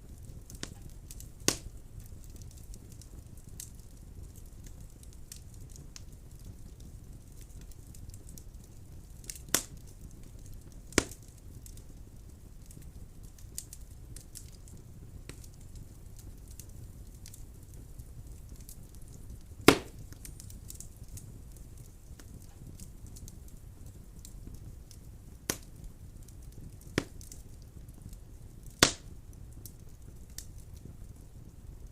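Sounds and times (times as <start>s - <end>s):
fire crackling: 0.0s - 31.9s
fire flames rumbling: 0.0s - 31.9s
sharp pops of burning wood: 0.0s - 31.9s.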